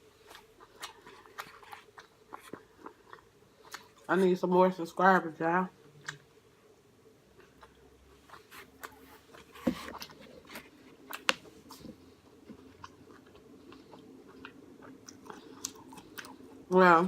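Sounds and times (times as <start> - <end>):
close-up chewing: 0.0 - 4.4, 7.3 - 16.8.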